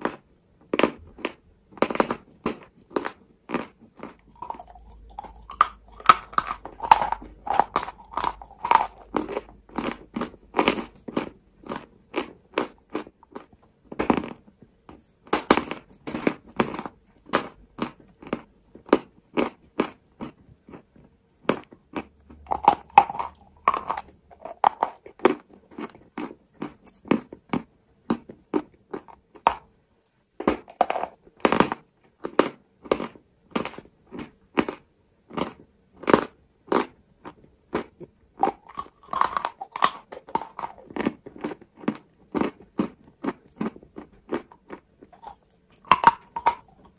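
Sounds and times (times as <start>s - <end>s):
chewing chalk crunches: 0.0s - 46.9s.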